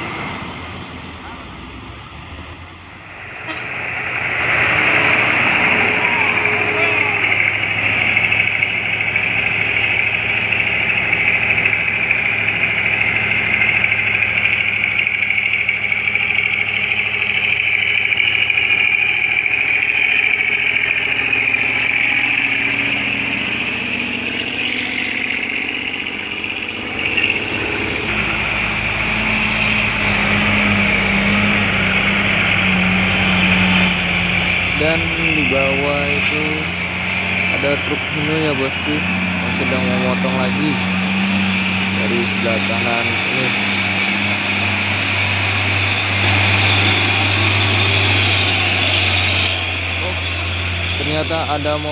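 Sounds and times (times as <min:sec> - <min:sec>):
diesel truck engine labouring: 0:00.0 - 0:51.9
low engine drone: 0:00.0 - 0:51.9.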